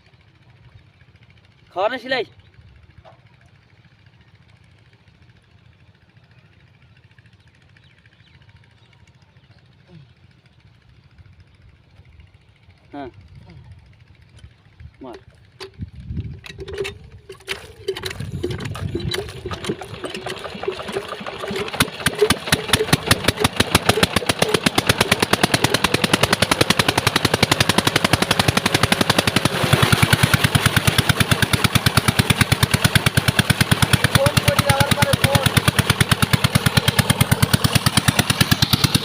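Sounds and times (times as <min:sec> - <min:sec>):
diesel engine starting and chugging: 0:00.1 - 0:39.0.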